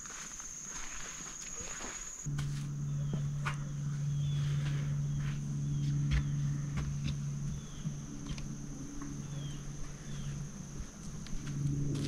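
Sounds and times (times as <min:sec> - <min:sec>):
high-pitched insect drone: 0:00.0 - 0:12.0
steady low hum: 0:00.0 - 0:12.0.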